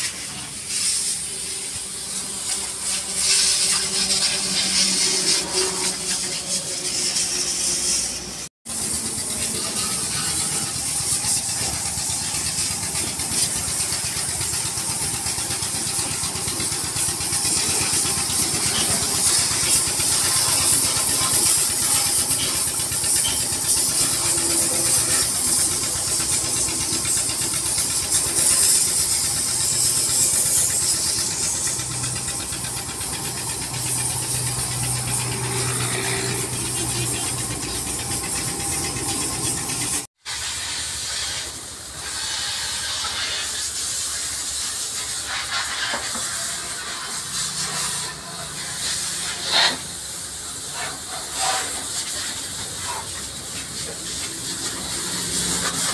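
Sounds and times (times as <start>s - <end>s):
high-pressure water jet hissing: 0.0s - 55.9s
pressure washer pump motor hum: 0.0s - 55.9s.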